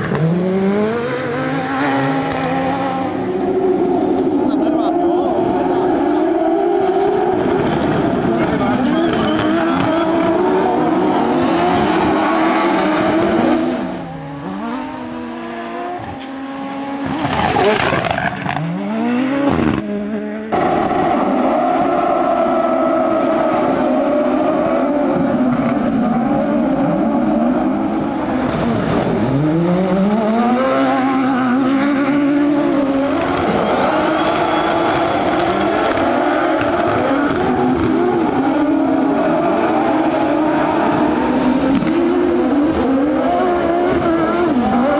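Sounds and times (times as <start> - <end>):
buggy engine revving high: 0.0 - 44.9.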